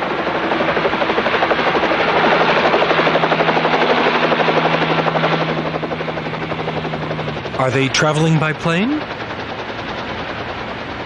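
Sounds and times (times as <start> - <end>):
helicopter rotors chopping: 0.0 - 11.0.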